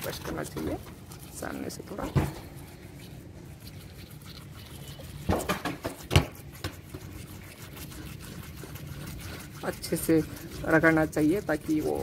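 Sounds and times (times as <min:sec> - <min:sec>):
toothbrush wet scrubbing: 0:00.0 - 0:12.0.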